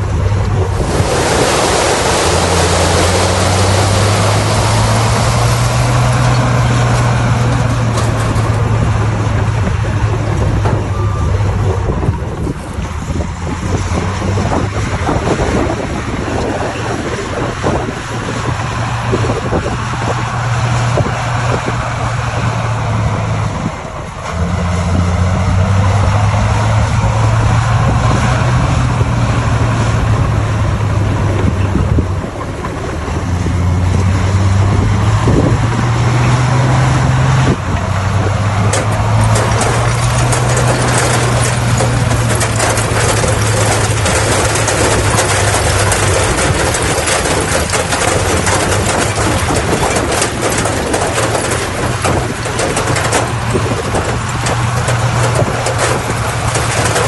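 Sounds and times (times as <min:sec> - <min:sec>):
dense rattling clatter: 0:00.0 - 0:22.6, 0:23.7 - 0:57.0
bulldozer diesel engine: 0:00.0 - 0:57.0.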